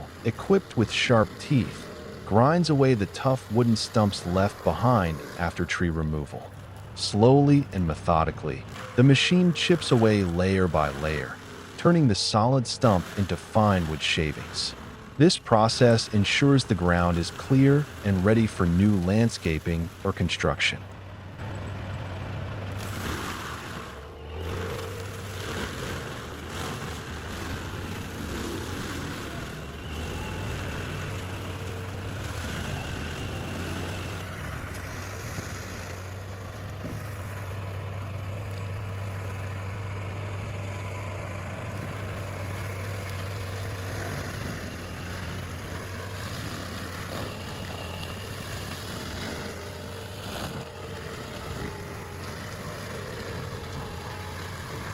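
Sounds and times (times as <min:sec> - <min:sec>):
cutting wheel grinding stump: 0:00.0 - 0:54.9
engine droning: 0:00.0 - 0:54.9.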